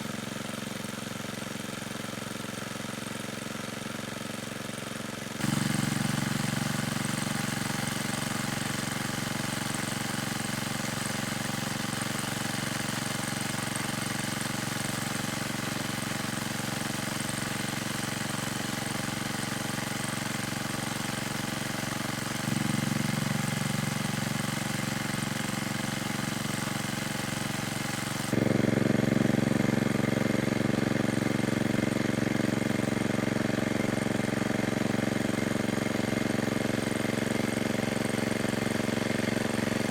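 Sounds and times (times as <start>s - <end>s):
small engine humming: 0.0s - 0.6s, 5.4s - 39.9s.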